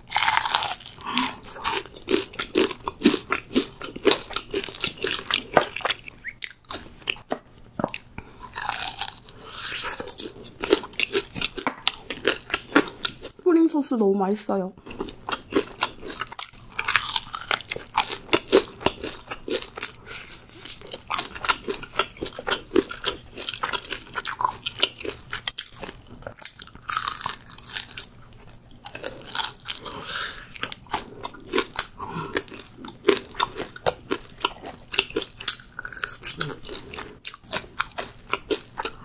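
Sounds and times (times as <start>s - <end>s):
crunchy chewing of fried chicken: 0.0s - 13.3s, 14.8s - 39.0s.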